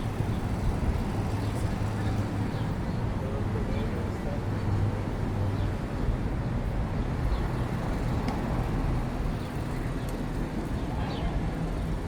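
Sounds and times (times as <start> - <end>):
road traffic rumble: 0.0 - 12.0
sidewalk bustle: 0.0 - 12.0.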